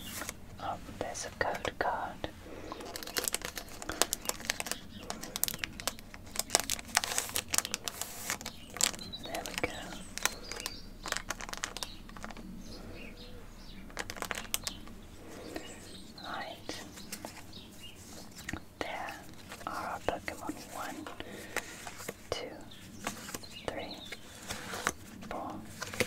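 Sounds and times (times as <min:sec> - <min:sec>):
cards clicking and tapping: 0:01.2 - 0:12.5, 0:13.9 - 0:17.5, 0:18.2 - 0:26.0
wrapper crinkling: 0:02.6 - 0:12.5, 0:13.8 - 0:26.0.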